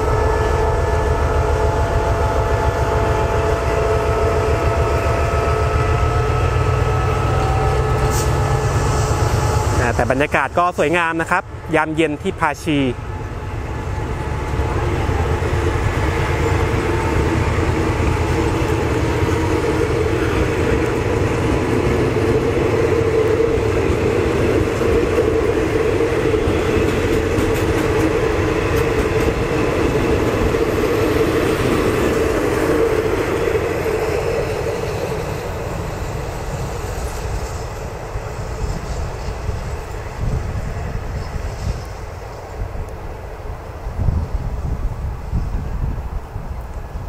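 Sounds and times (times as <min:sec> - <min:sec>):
coaches rumbling on rails: 0:00.0 - 0:47.0
locomotive engine drone: 0:00.0 - 0:47.0.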